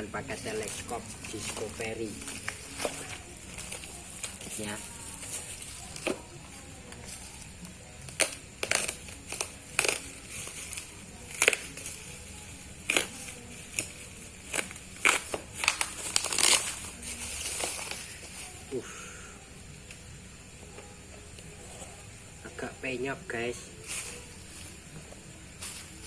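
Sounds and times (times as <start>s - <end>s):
packaging crackling and crumpling: 0.0s - 18.8s, 23.8s - 26.0s.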